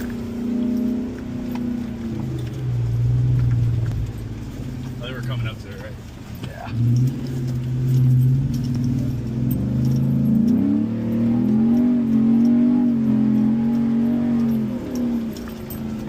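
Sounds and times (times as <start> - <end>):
light rattles and clicks: 0.0 - 16.0
truck engine accelerating: 0.0 - 16.0.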